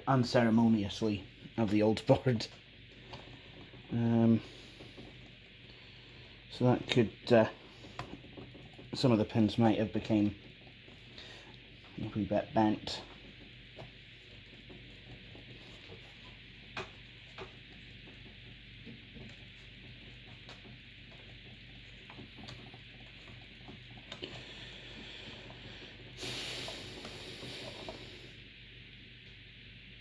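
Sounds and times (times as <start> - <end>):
faint steady hiss: 0.0 - 30.0.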